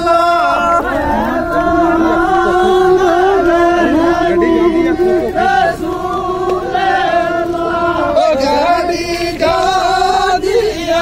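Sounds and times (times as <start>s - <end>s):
men singing a chant: 0.0s - 11.0s.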